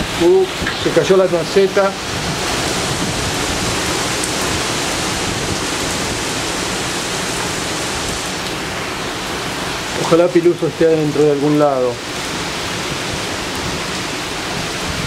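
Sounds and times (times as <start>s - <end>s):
heavy rain on paving: 0.0s - 15.0s.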